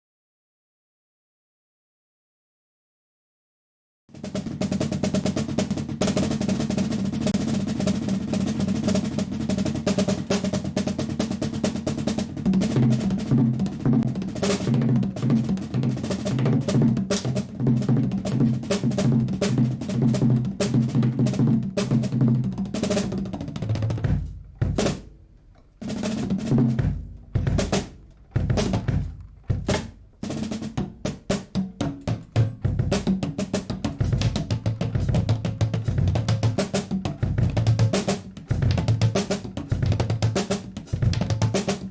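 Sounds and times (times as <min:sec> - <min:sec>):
muted drum kit played with sticks: 0:04.1 - 0:41.9.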